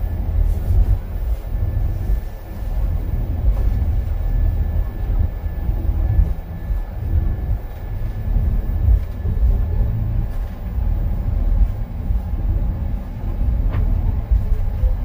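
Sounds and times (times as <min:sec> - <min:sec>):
monorail car rumble: 0:00.0 - 0:15.0.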